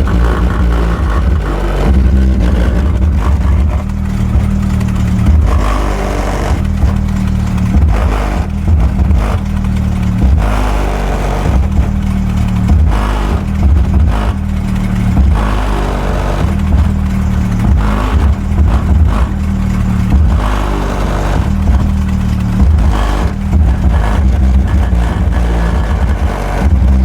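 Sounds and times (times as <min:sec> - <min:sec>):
subwoofer playing bass-heavy music: 0:00.0 - 0:27.0.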